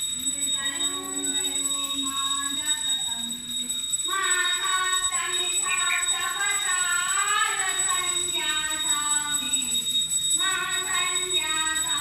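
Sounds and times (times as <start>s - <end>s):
temple prayers: 0.0s - 12.0s.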